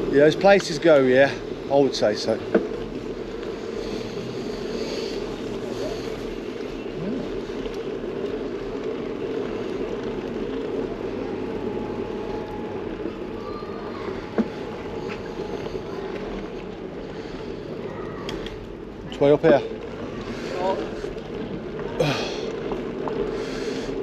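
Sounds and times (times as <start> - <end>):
bicycle tyre noise: 0.0 - 24.0.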